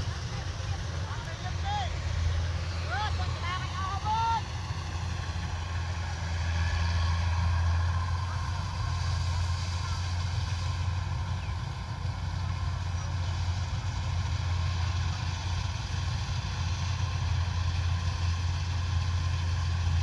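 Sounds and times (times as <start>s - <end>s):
combine harvester engine drone: 0.0s - 20.0s.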